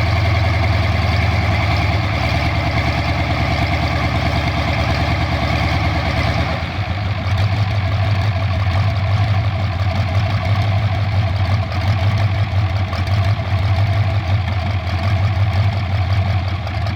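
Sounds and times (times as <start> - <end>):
marine diesel engine running: 0.0 - 16.9.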